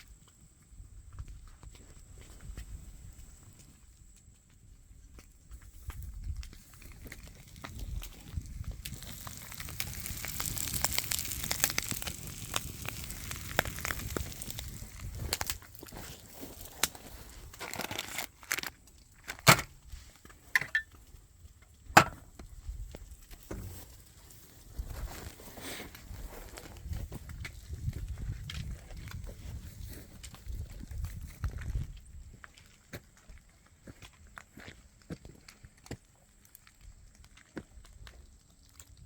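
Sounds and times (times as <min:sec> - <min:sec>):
crackling and crunching: 0:00.0 - 0:39.0.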